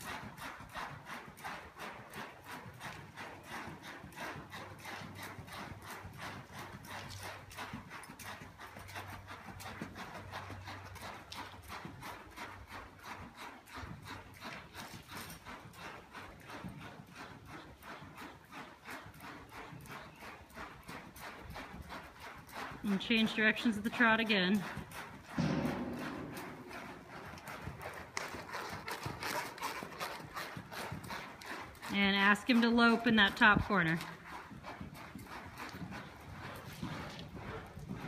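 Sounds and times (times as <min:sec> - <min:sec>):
horse hoofbeats on soft dirt: 0:00.0 - 0:38.0.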